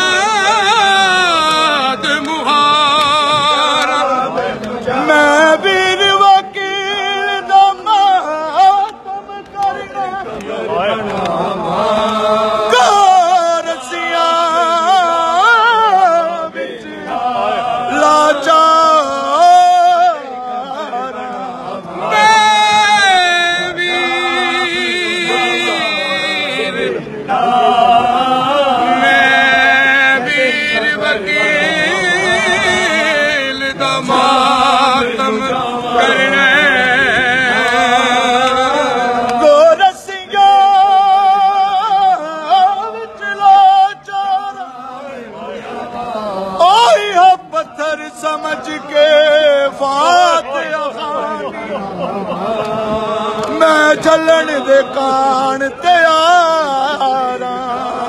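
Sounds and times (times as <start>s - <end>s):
man singing unaccompanied: 0.0s - 58.0s.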